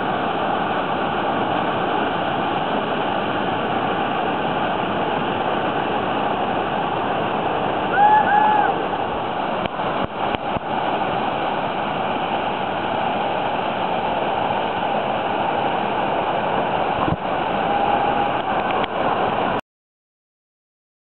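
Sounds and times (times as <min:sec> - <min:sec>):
whitewater rapids rushing: 0:00.0 - 0:19.6.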